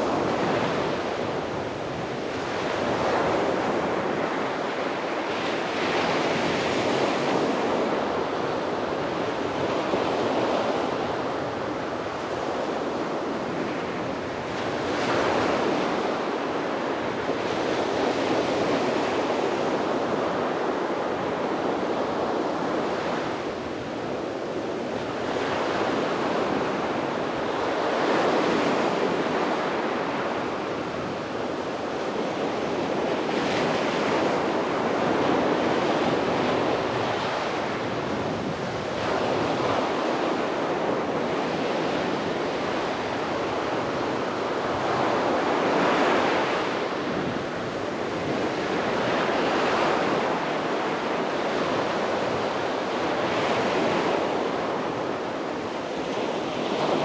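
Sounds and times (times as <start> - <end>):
sea waves breaking on beach: 0.0 - 57.0
wind on microphone: 0.0 - 57.0.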